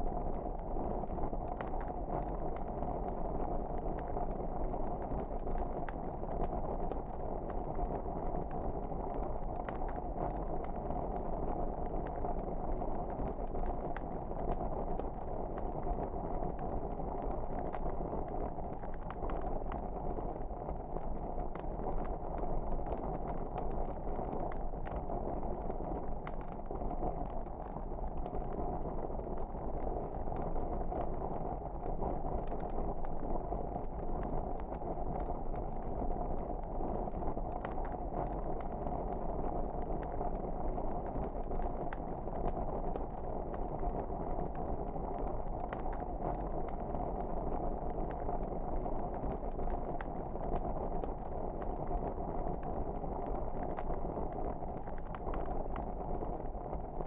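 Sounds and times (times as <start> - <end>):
fire crackles and pops: 0.0 - 57.0.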